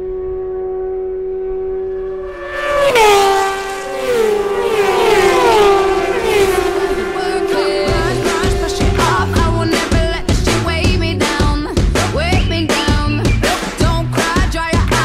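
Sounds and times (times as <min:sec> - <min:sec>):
racing motorcycles passing: 0:00.1 - 0:15.0.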